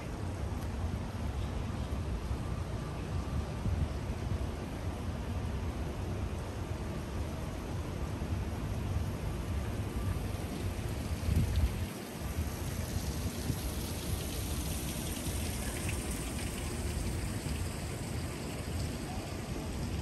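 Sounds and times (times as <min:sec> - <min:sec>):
street ambience with low rumble: 0:00.0 - 0:20.0.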